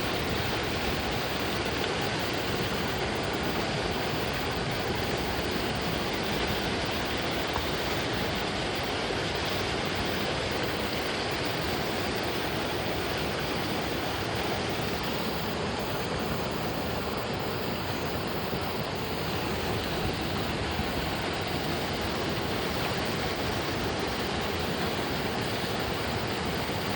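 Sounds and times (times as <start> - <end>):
running water rushing: 0.0 - 26.9.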